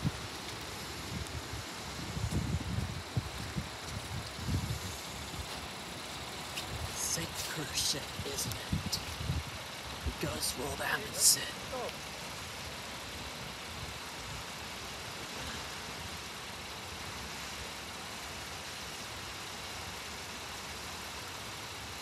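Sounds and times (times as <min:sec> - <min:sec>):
constant hiss: 0:00.0 - 0:22.0.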